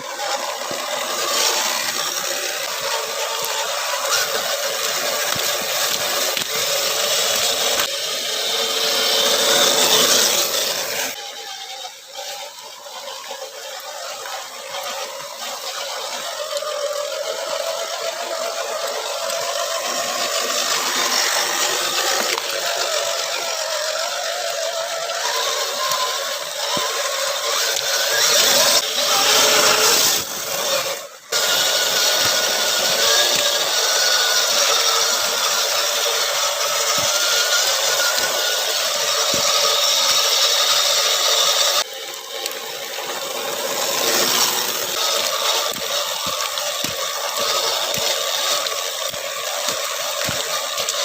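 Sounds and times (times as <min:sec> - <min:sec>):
toy car electric motor whining: 0:00.0 - 0:51.0.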